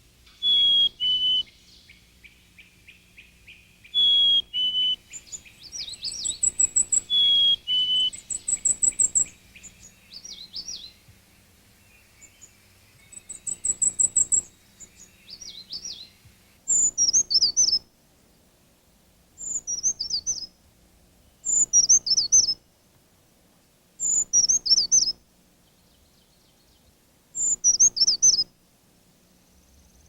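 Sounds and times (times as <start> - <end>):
songbird singing: 0.0 - 23.0, 23.6 - 30.0.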